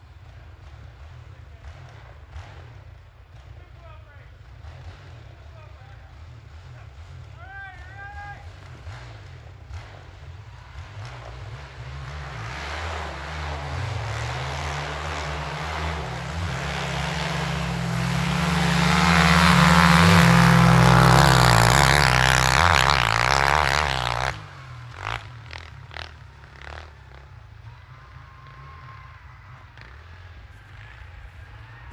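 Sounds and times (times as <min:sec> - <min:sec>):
quad engine racing: 0:00.0 - 0:31.9
snowmobile engine racing: 0:00.0 - 0:31.9.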